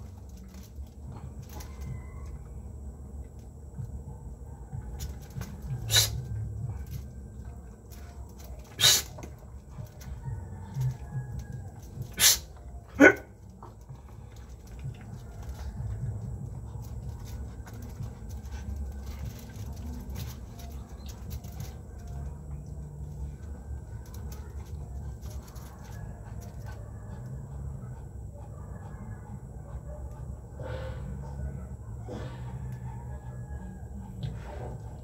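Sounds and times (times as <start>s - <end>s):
faint clicks and shuffling: 0.0s - 30.5s
low background rumble: 0.0s - 35.0s.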